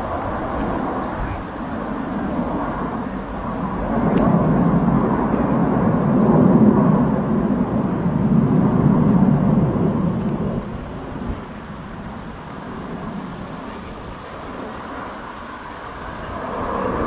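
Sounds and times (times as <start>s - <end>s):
aircraft rumble flying past: 0.0s - 17.0s.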